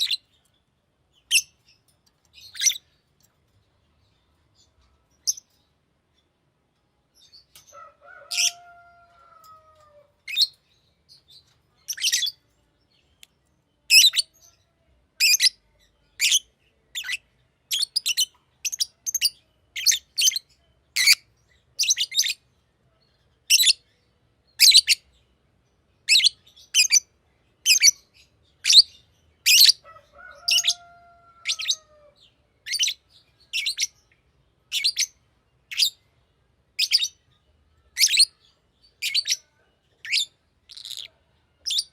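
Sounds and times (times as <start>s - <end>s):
bird chirping: 0.0s - 6.4s, 7.2s - 14.5s, 15.2s - 41.9s.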